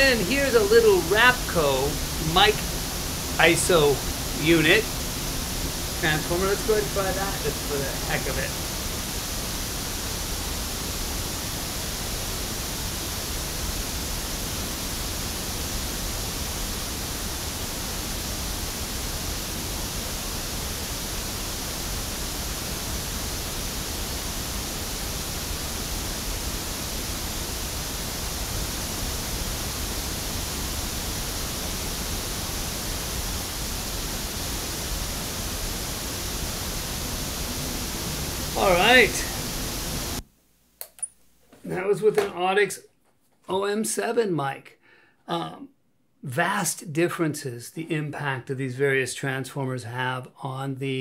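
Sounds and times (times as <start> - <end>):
pink noise hiss from loudspeaker: 0.0 - 40.2, 40.8 - 42.9, 43.5 - 51.0.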